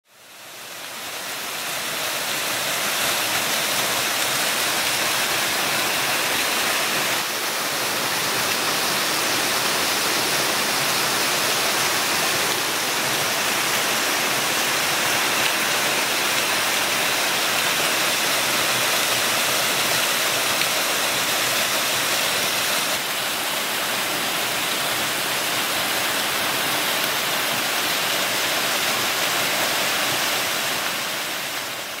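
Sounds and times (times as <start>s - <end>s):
waterfall rushing and splashing: 0.1s - 32.0s.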